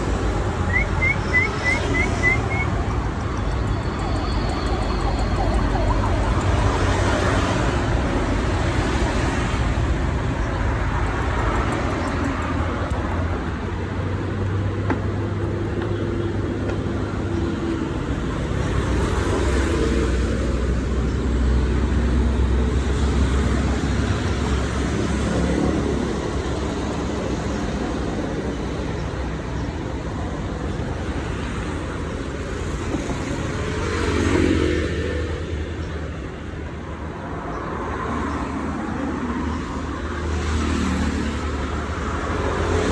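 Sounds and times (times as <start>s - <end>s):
road traffic rumble: 0.0s - 42.9s.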